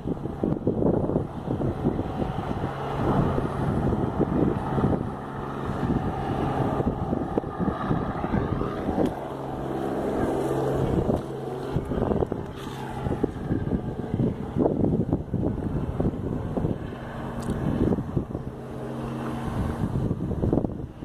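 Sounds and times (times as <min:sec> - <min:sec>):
helicopter engine drone: 0:00.0 - 0:21.0
helicopter rotor thrum: 0:00.0 - 0:21.0.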